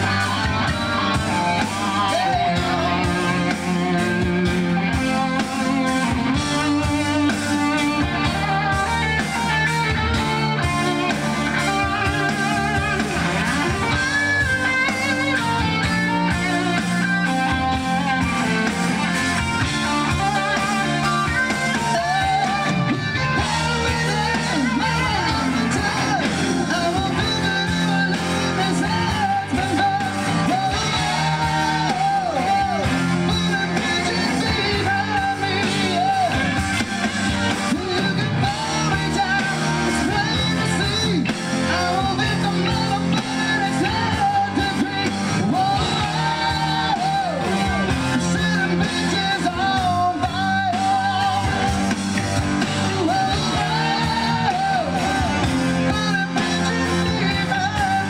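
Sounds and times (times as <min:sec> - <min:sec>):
person singing lead: 0:00.0 - 0:36.9, 0:37.5 - 0:52.0, 0:52.6 - 0:58.0
live rock band playing: 0:00.0 - 0:58.0.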